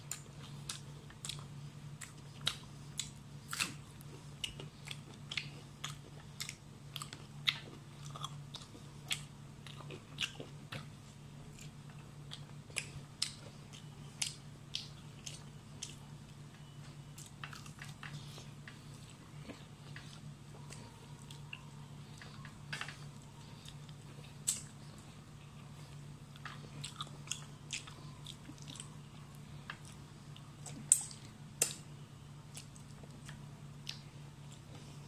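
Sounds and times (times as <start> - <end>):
person chewing food: 0.0 - 35.0
steady low hum: 0.0 - 35.0.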